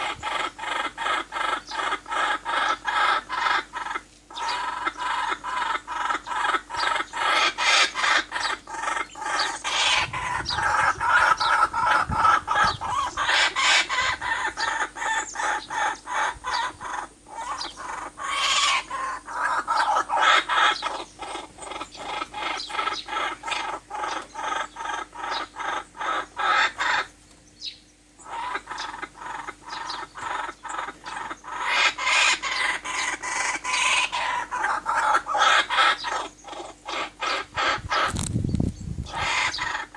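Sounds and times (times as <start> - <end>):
dense bird chorus: 0.0 - 39.9.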